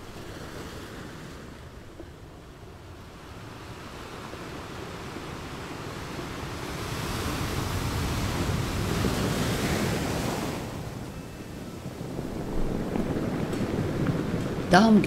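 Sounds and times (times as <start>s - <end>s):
sea surf rushing: 0.0s - 15.0s.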